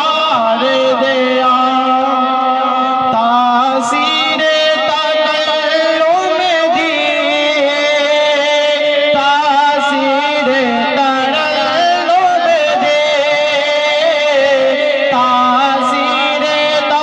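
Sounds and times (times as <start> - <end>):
man singing through pa system: 0.0 - 17.0.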